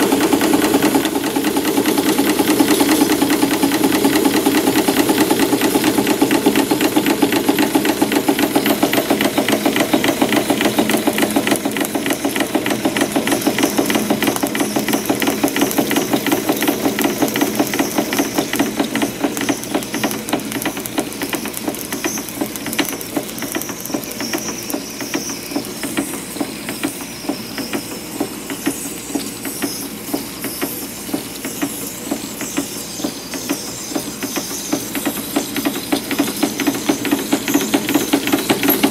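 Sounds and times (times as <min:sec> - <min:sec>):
steam engine clattering: 0:00.0 - 0:38.9
steam hissing: 0:00.0 - 0:38.9.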